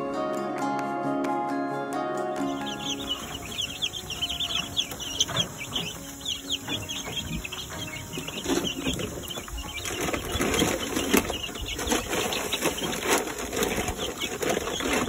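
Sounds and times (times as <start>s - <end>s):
ducklings and chicks peeping: 2.2s - 15.0s.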